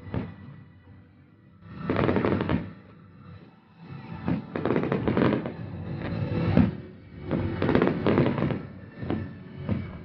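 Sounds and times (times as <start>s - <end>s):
fireworks bangs and crackles: 0.0s - 0.5s, 1.8s - 10.0s.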